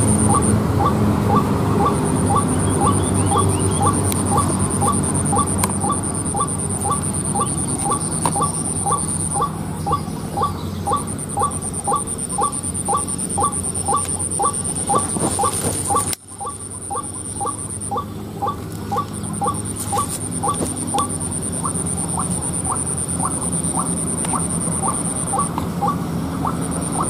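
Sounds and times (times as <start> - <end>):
high-pitched whine: 0.0 - 27.0
waterhen calls: 0.0 - 27.0.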